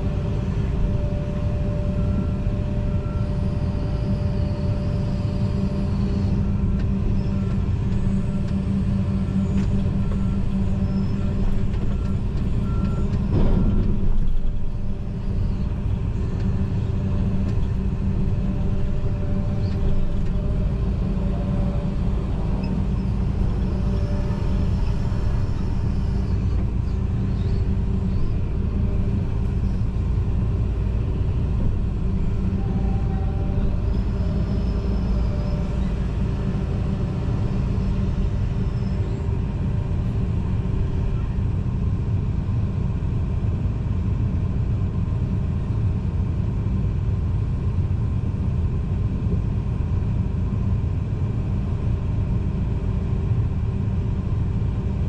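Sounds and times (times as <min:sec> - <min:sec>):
excavator diesel engine and hydraulics: 0:00.0 - 0:55.0.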